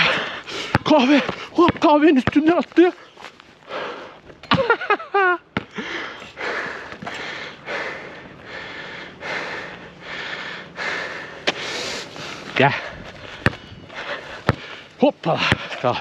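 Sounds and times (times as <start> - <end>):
heavy rhythmic breathing: 0.0 - 1.6, 2.8 - 4.5, 5.6 - 16.0.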